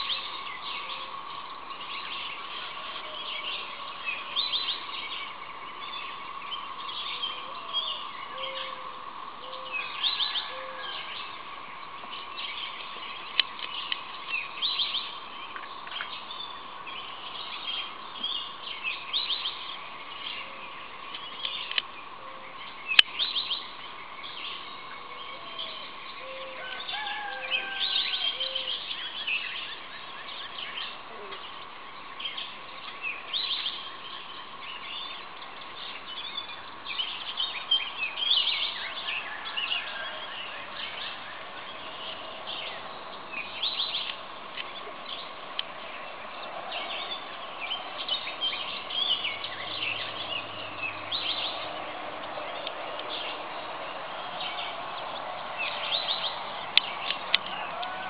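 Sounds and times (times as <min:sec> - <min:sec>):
low repeated bird calls: 0:00.0 - 0:58.0
songbirds chirping and singing: 0:00.0 - 0:58.0.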